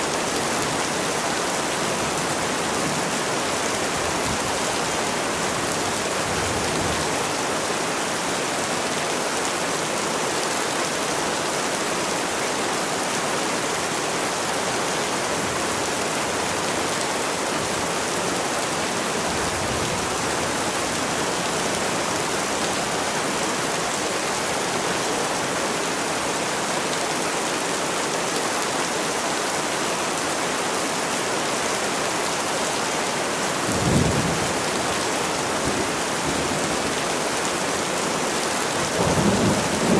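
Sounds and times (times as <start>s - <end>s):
steady rainfall hissing: 0.0s - 39.9s.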